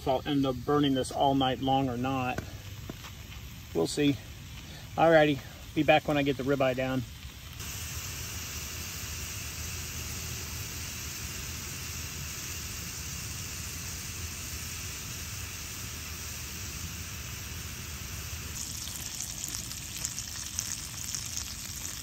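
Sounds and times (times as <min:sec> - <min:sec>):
mushrooms sizzling in a skillet: 0:02.8 - 0:22.0.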